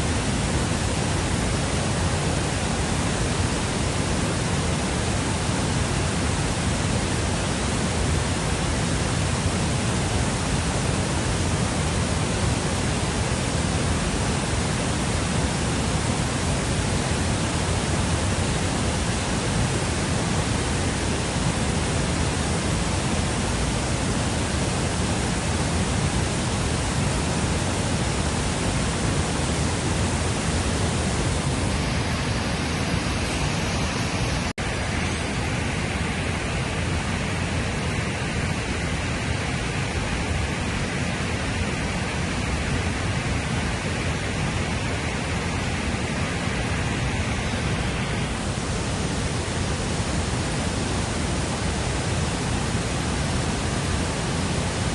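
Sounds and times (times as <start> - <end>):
fast-flowing river water: 0.0 - 54.9.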